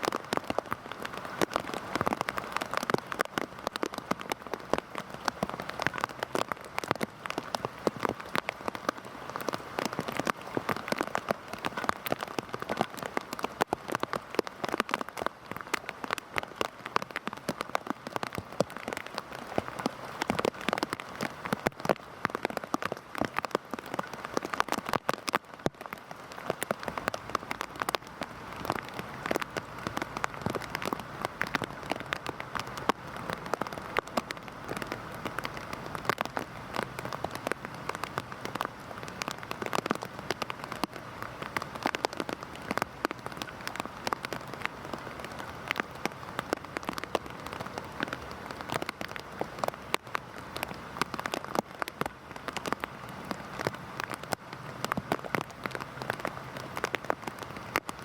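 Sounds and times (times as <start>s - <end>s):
heavy rain hissing: 0.0s - 58.0s
raindrops ticking close by: 0.0s - 58.0s.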